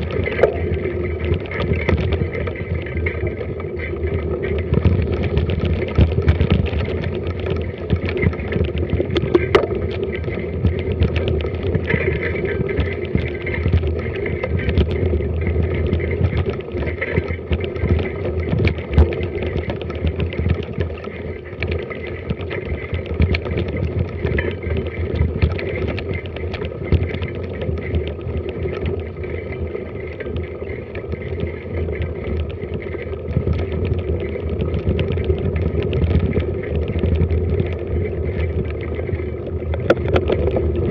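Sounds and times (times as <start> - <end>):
bike rattling and knocking: 0.0 - 40.9.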